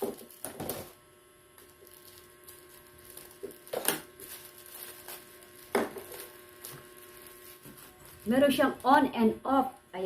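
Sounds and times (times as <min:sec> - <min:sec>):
packaging handling sounds: 0:00.0 - 0:01.0, 0:01.6 - 0:09.0
faint hum: 0:00.0 - 0:10.0.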